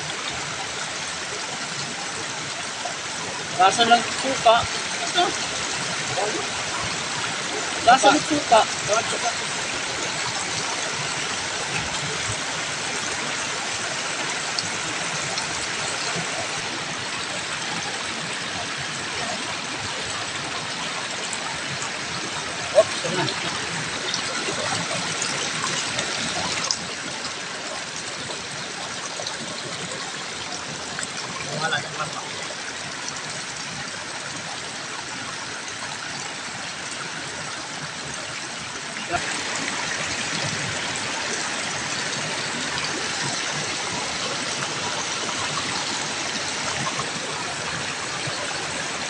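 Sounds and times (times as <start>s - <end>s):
creek water running over rocks: 0.0s - 49.0s.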